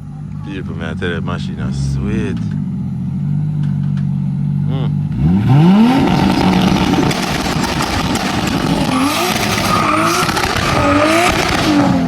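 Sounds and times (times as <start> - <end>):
turbocharged car engine revving: 0.0 - 12.0.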